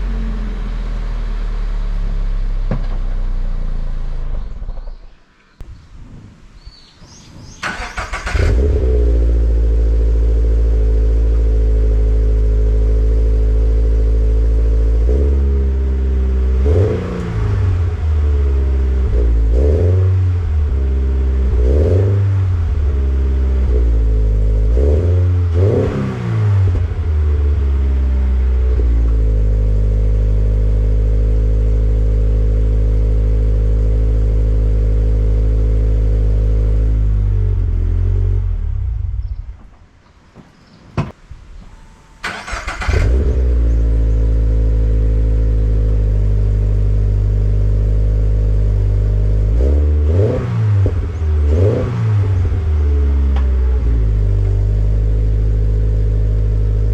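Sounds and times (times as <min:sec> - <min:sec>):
car engine idling: 0:00.0 - 0:16.6, 0:26.6 - 0:49.6, 0:50.6 - 0:56.9
car engine starting: 0:00.0 - 0:40.0, 0:40.6 - 0:56.9
car engine revving: 0:07.5 - 0:39.4, 0:41.7 - 0:56.9.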